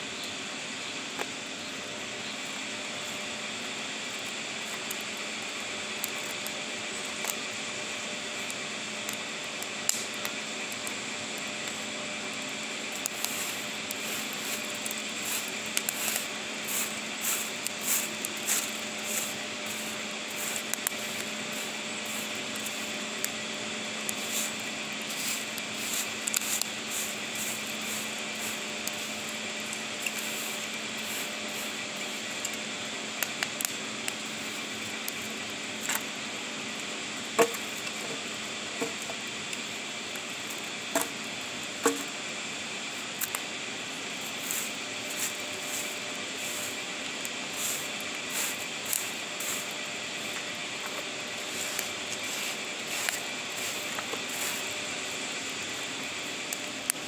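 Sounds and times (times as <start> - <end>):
wood fire crackling and popping: 1.0 - 57.0.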